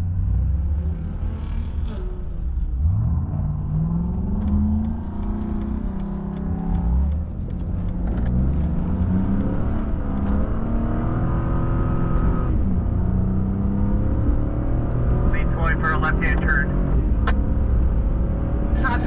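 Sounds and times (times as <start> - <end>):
road noise: 0.0 - 19.0
truck engine accelerating: 0.0 - 19.0.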